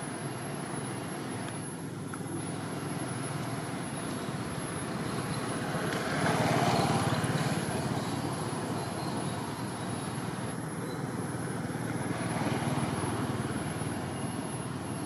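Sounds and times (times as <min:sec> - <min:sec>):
vehicle engine: 0:00.0 - 0:15.0.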